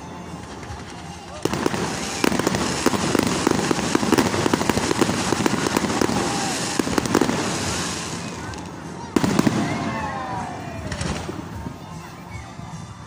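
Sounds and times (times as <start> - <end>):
fireworks cracking and popping: 0.0 - 12.1.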